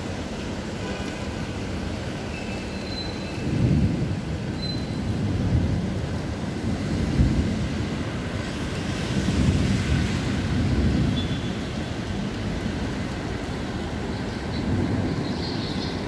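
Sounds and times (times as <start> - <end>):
low rumbling of stormy weather: 3.0 - 16.0.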